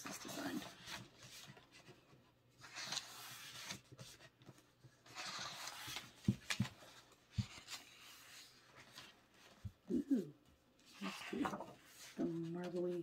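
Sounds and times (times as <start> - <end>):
photobook pages turning: 0.0 - 9.8, 10.8 - 13.0.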